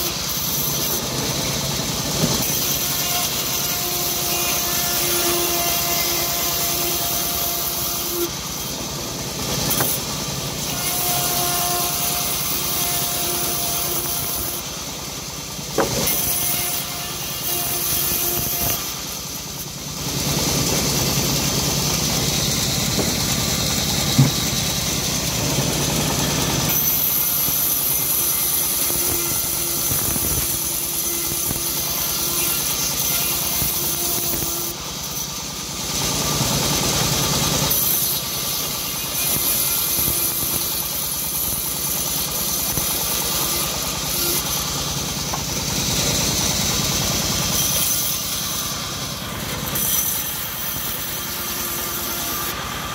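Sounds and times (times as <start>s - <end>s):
blade cutting wood hiss: 0.0s - 52.9s
sawmill machine drone: 0.0s - 52.9s.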